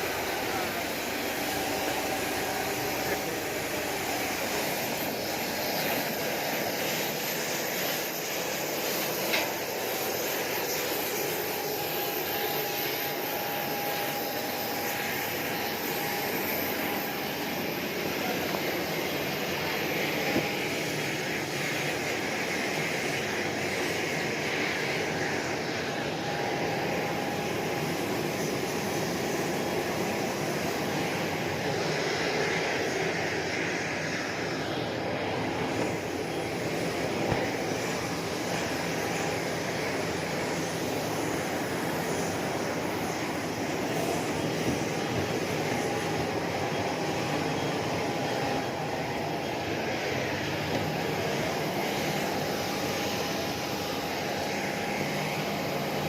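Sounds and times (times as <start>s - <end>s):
jet aircraft noise: 0.0s - 56.0s.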